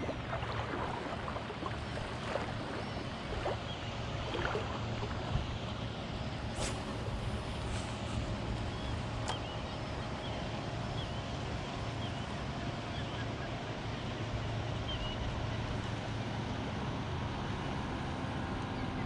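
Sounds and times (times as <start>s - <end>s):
water noise: 0.0s - 18.8s
distant motorboat engine hum: 0.0s - 19.0s
wind: 0.0s - 19.0s.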